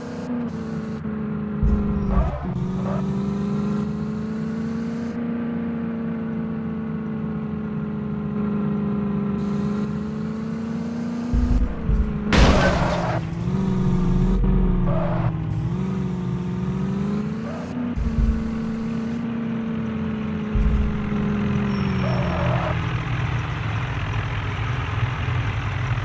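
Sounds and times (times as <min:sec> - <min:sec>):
tractor diesel engine running: 0:00.0 - 0:05.4, 0:09.4 - 0:26.0.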